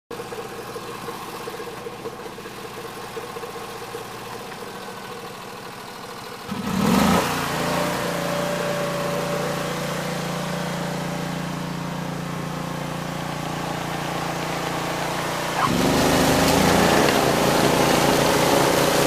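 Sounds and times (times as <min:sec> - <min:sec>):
snow blower engine running: 0:00.1 - 0:19.0.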